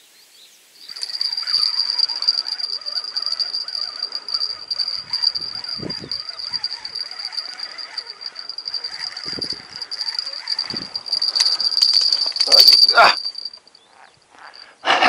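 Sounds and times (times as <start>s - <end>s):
insect chorus buzzing: 0.8s - 14.8s.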